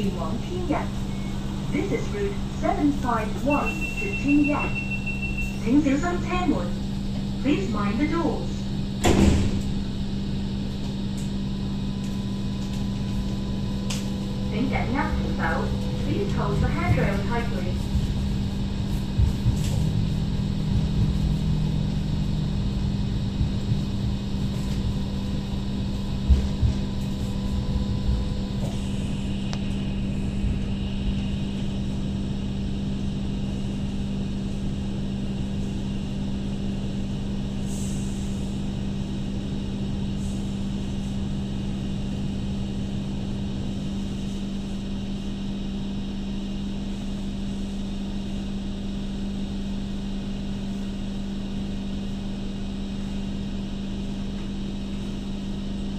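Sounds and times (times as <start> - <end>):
train wheel rumble and hum: 0.0 - 55.9.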